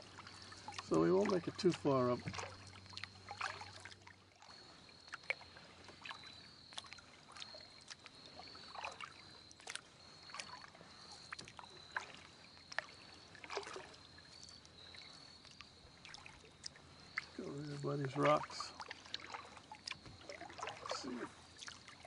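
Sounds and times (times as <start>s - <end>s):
paddle splashing in water: 0.0s - 22.0s
water dripping: 0.0s - 22.0s.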